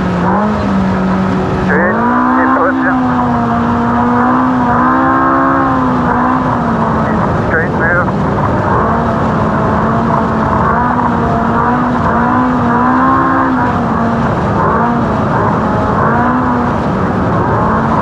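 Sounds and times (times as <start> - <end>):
race car engine running hard: 0.0 - 18.0
terrain and drivetrain rumble: 0.0 - 18.0.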